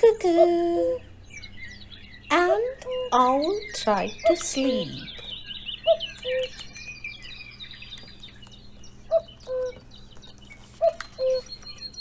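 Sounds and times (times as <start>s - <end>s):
cuckoo calling: 0.0s - 12.0s
small birds chirping faintly: 0.0s - 12.0s.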